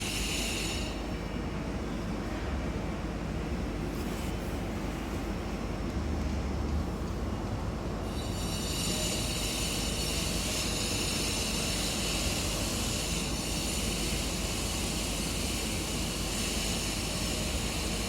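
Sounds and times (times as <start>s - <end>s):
electric train whine: 0.0s - 3.8s, 5.3s - 18.0s.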